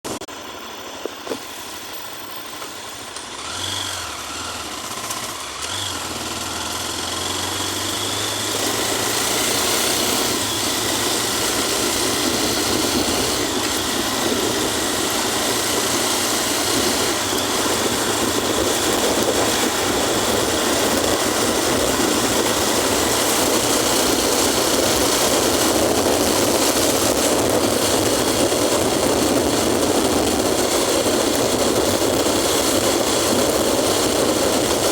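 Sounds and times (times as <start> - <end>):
road noise rushing: 0.1 - 34.9
vehicle engine running: 0.1 - 34.9.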